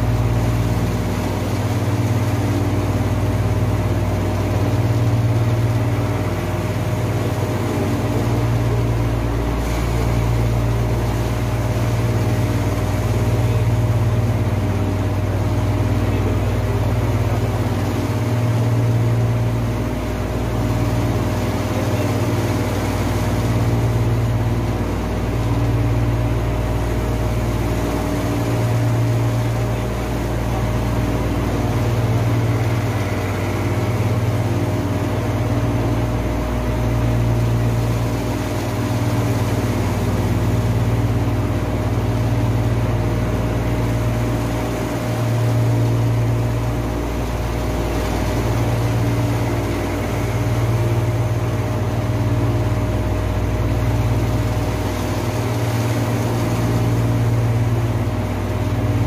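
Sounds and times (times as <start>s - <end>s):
air conditioning machinery drone: 0.0s - 59.0s.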